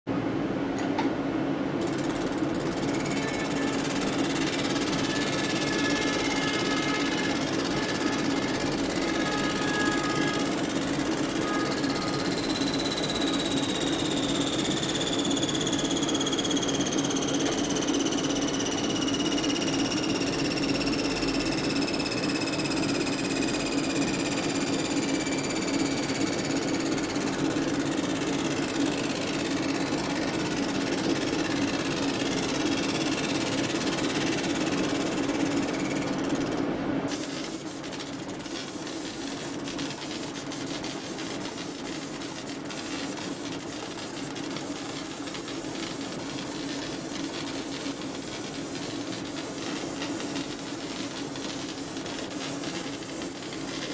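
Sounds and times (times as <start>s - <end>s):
laser engraving machine humming: 1.6s - 53.9s.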